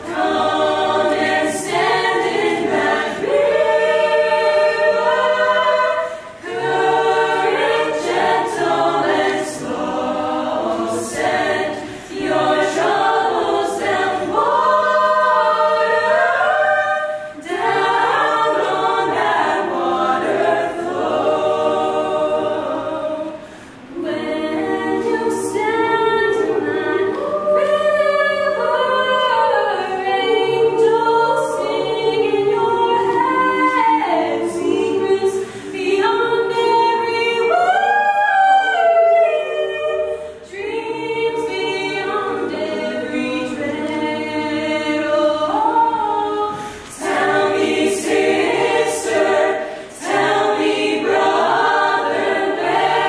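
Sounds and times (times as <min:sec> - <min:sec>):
choir singing a cappella: 0:00.0 - 0:53.0.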